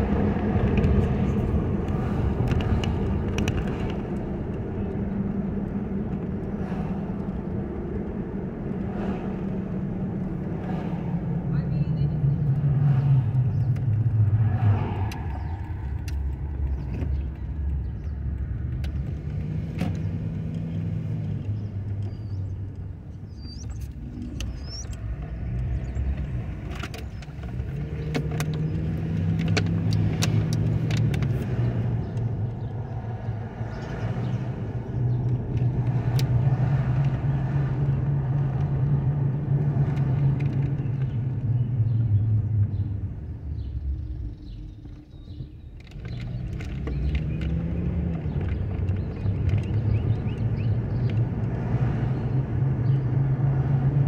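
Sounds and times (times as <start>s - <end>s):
car engine rising and falling: 0.0s - 54.0s
road noise inside car: 0.0s - 54.0s.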